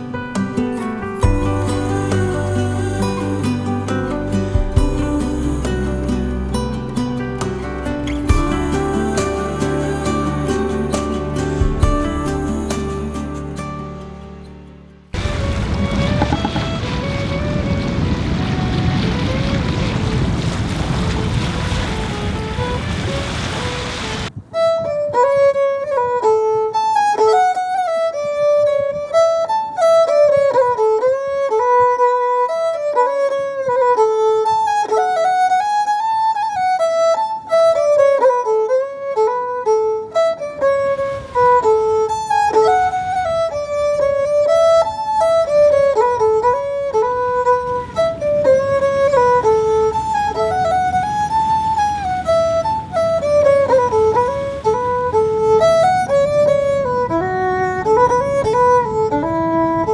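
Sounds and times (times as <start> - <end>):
solo violin lively melody: 0.0 - 14.2, 15.1 - 59.9.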